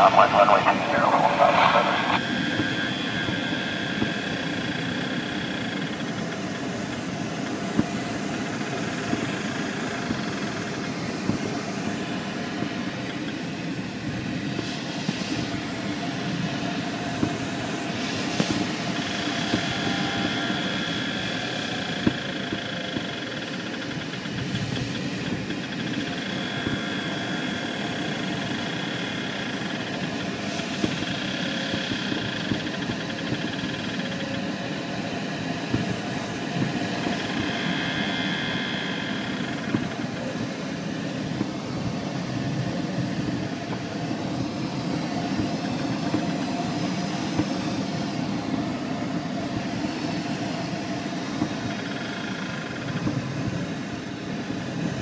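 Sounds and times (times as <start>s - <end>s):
light aircraft cabin drone: 0.0s - 55.0s.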